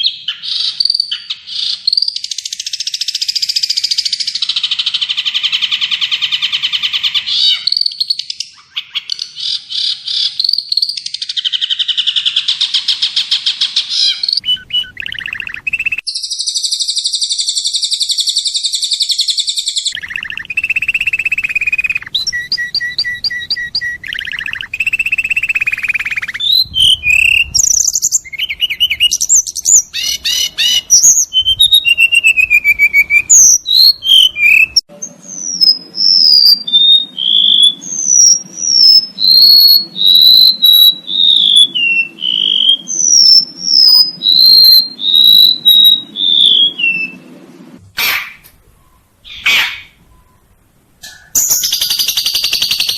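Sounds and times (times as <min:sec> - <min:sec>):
recorded songbird song: 0:00.0 - 0:52.9.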